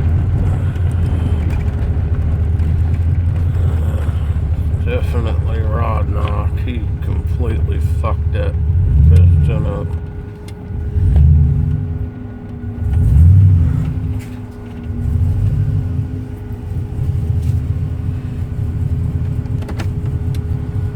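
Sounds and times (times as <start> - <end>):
engine choppy idle: 0.0 - 20.9
engine revving: 0.0 - 20.9.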